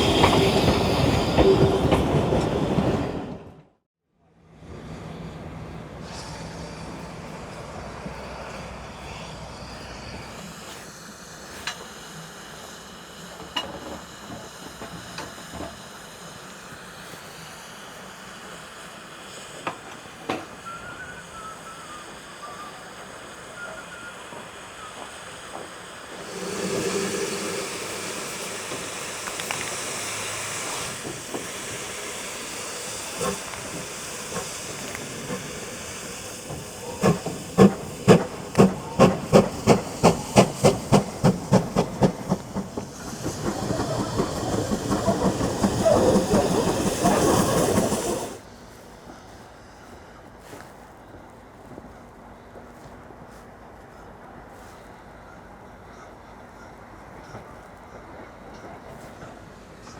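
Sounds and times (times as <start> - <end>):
locomotive steam hissing: 0.0 - 3.8, 4.6 - 59.9
steam locomotive exhaust beats: 0.0 - 3.8, 4.6 - 59.9.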